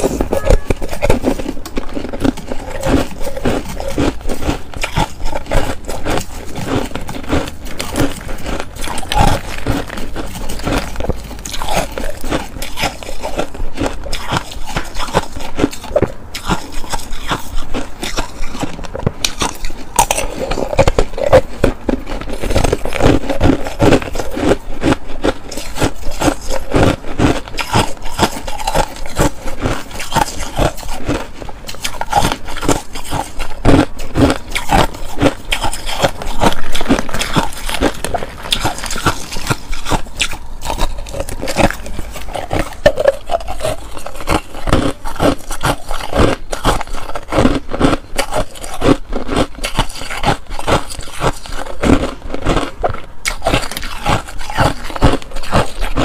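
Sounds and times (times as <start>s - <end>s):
metal spoon scraping shaved ice: 0.0s - 52.1s, 53.3s - 56.0s
ice crunching: 0.0s - 56.0s.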